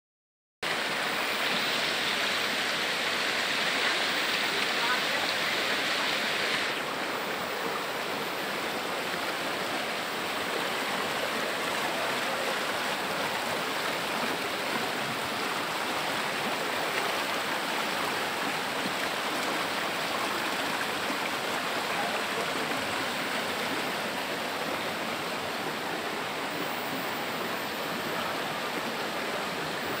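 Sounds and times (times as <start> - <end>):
stream rushing over rocks: 0.6 - 30.0.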